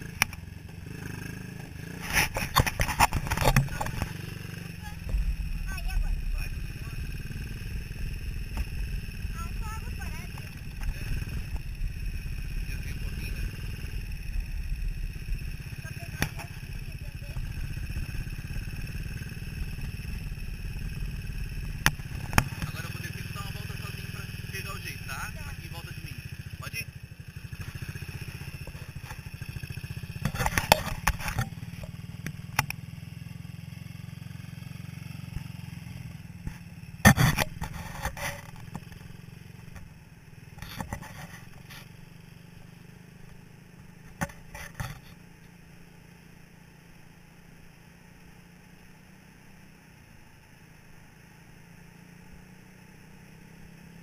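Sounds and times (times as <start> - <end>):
buggy engine running: 0.0 - 54.0.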